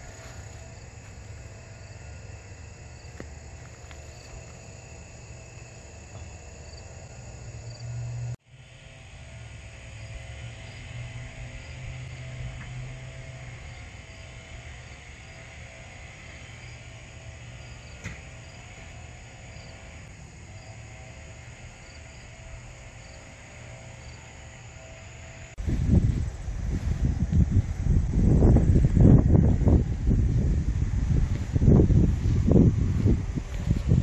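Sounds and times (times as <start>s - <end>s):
faint insect chirps: 0.0s - 8.7s, 9.9s - 30.9s
steady low hum: 0.0s - 34.0s.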